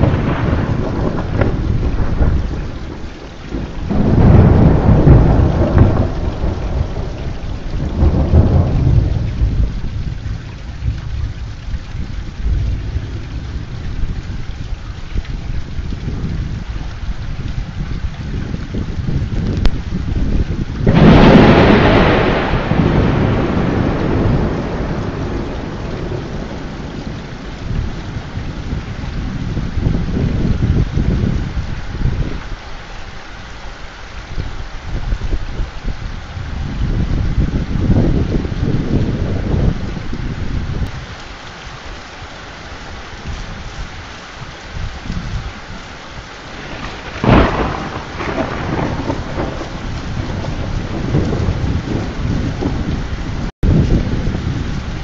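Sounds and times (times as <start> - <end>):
thunder rumbling: 0.0 - 32.4, 42.8 - 55.0
steady rain: 0.0 - 55.0.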